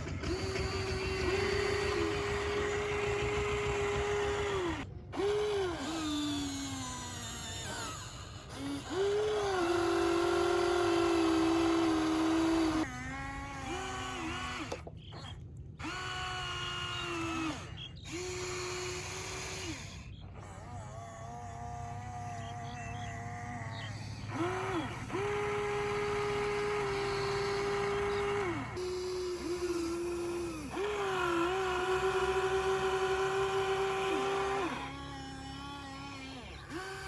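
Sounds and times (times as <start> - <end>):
small electric motors whining: 0.0 - 37.0.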